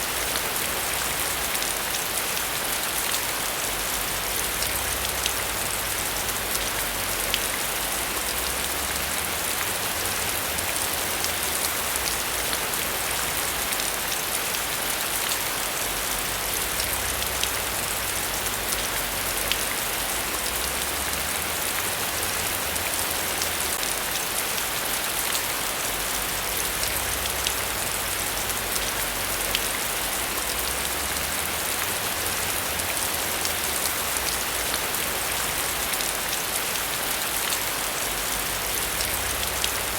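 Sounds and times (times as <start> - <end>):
raindrops ticking on a surface: 0.1 - 39.9.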